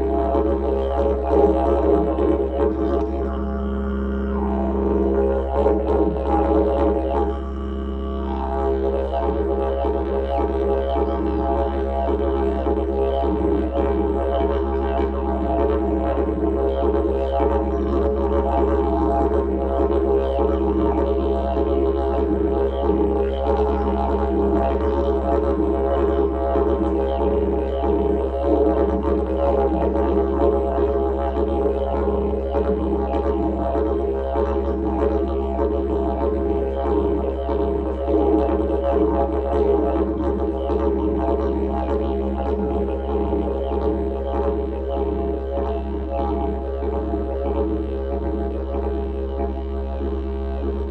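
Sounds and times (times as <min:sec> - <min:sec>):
didgeridoo drone: 0:00.0 - 0:50.9.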